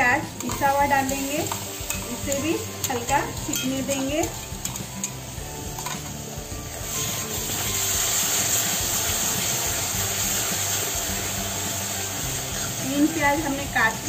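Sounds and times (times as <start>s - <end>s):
onion paste sizzling in oil: 0.0s - 14.0s.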